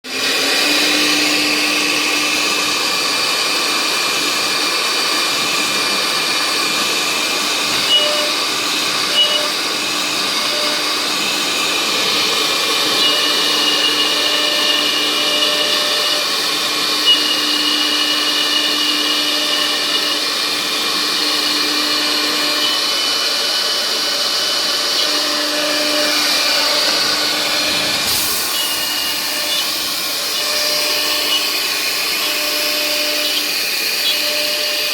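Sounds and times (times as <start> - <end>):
cnc router whirring: 0.0 - 34.9
spindle cutting whine: 0.0 - 34.9.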